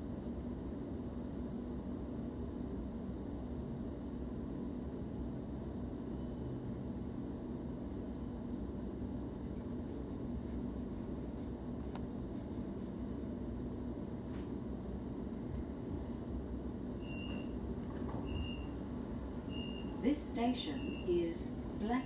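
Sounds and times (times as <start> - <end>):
train carriage rumble and hum: 0.0 - 22.0.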